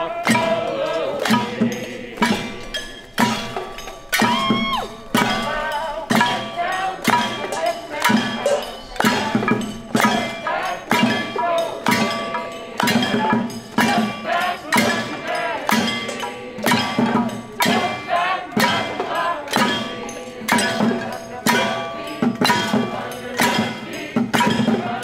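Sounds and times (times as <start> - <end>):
pots and cans beaten with sticks: 0.0 - 25.0.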